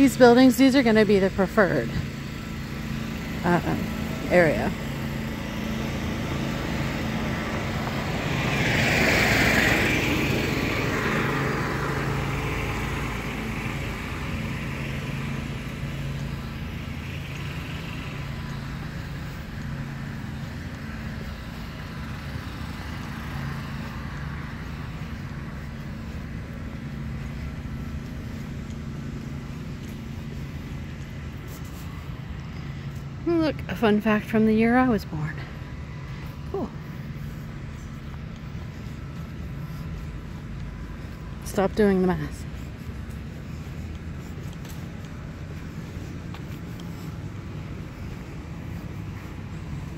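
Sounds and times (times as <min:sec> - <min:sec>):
lawn mower engine humming: 0:00.0 - 0:34.9, 0:35.6 - 0:49.9.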